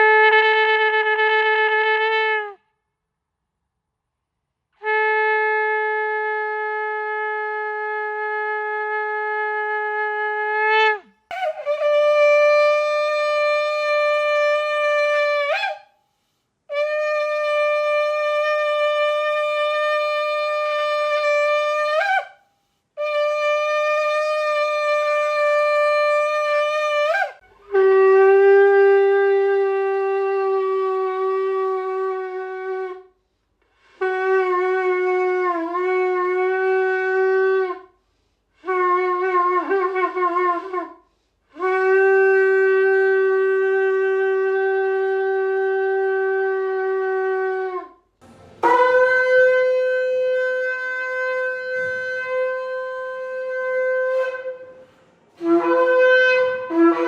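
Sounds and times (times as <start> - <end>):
lower-pitched shofar blasts: 4.8 - 15.9, 16.7 - 22.4, 23.0 - 33.1, 34.0 - 37.9, 41.6 - 57.0
shofar blasts: 4.8 - 15.9, 16.7 - 22.4, 23.0 - 33.1, 34.0 - 37.9, 41.6 - 57.0.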